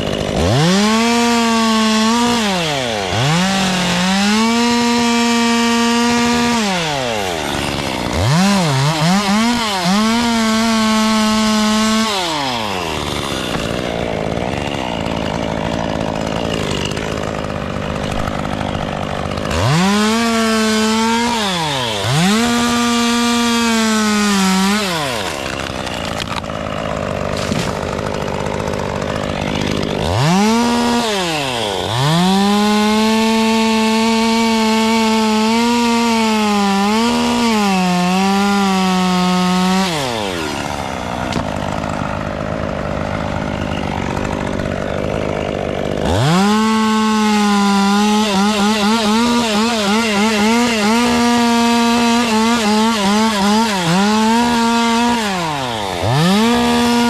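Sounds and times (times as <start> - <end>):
chainsaw idling: 0.0 - 57.0
chainsaw revving: 0.0 - 57.0.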